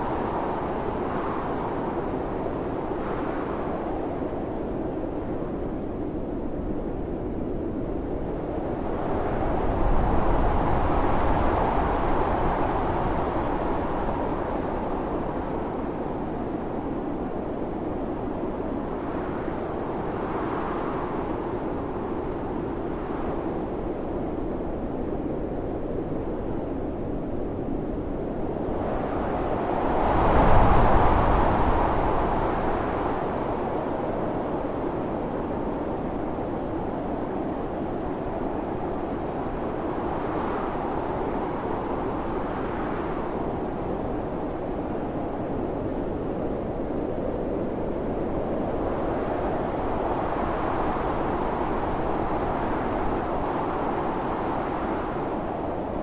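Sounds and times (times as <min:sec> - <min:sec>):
blizzard wind gusting: 0:00.0 - 0:56.0.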